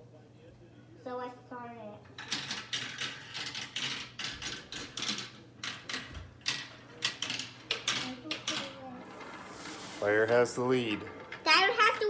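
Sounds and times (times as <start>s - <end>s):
marbles clattering down plastic track: 2.1s - 12.0s.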